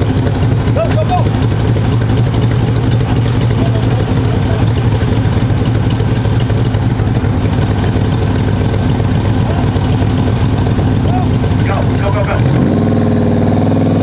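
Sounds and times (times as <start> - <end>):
truck engine idling: 0.0 - 13.6.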